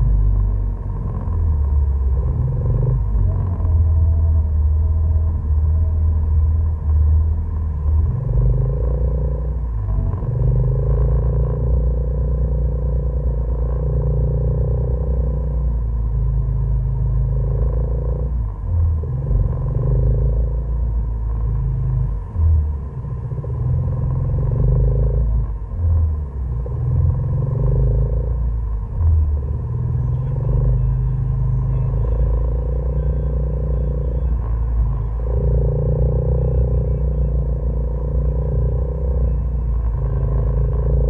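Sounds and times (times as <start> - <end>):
off-road vehicle engine rumble: 0.0 - 41.0.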